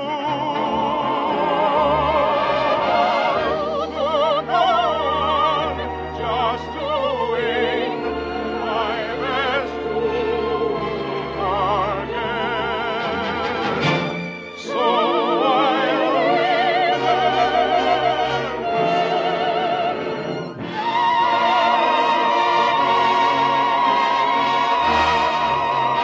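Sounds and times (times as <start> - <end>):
operatic singing: 0.0 - 26.0
orchestra playing: 0.0 - 26.0.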